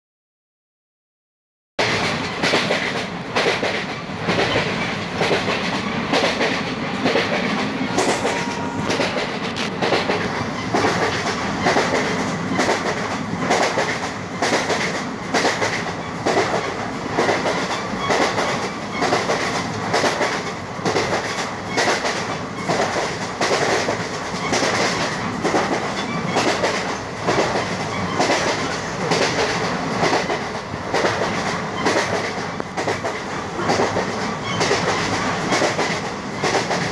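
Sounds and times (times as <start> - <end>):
train wheels clickety-clack: 1.8 - 36.9.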